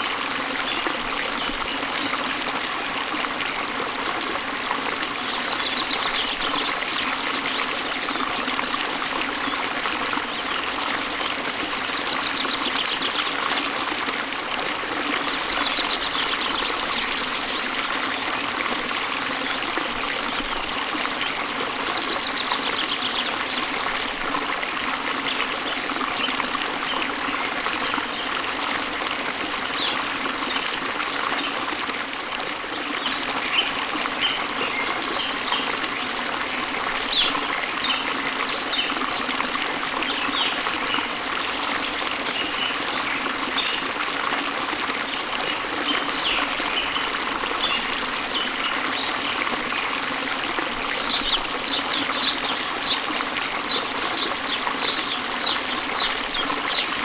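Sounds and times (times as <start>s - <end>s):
waterfall and stream rushing: 0.0s - 57.0s.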